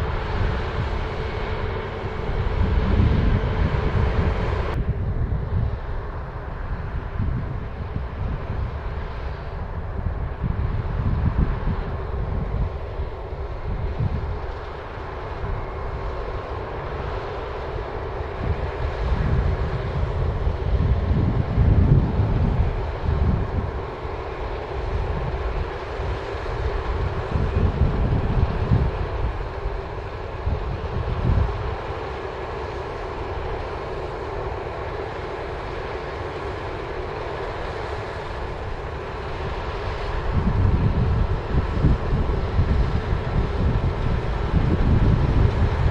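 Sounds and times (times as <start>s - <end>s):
combine harvester drone: 0.0s - 45.9s
wind rumbling on microphone: 0.0s - 45.9s.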